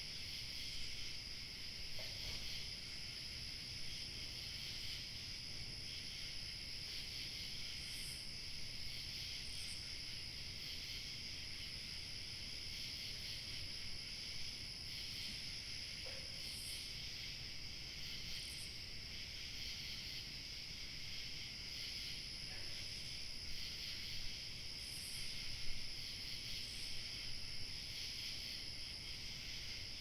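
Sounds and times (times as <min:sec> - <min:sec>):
crickets chirping: 0:00.0 - 0:30.0
high insect trill: 0:00.1 - 0:30.0.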